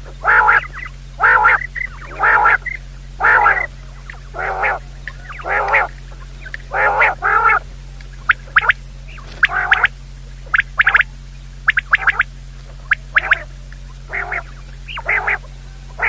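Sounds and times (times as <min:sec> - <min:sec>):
steady low hum: 0:00.0 - 0:16.0
bird calls and sharp chirps: 0:00.1 - 0:16.0.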